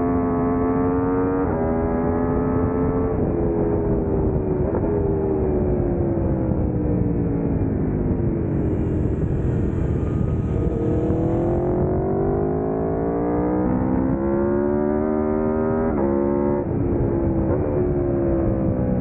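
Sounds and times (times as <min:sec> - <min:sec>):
motorcycle engine accelerating: 0:00.0 - 0:19.0
wind noise: 0:00.0 - 0:19.0.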